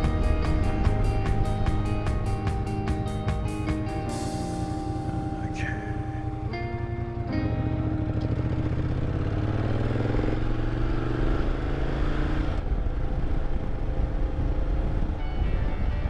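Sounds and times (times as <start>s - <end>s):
motorcycle engine accelerating: 0.0s - 15.2s.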